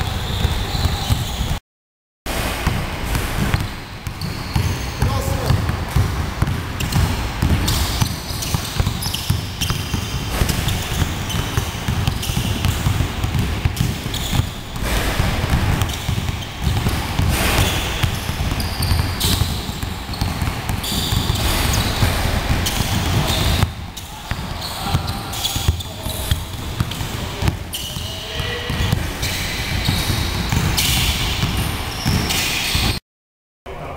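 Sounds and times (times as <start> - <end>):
basketballs bouncing on wooden floor: 0.0 - 1.6, 2.6 - 33.0.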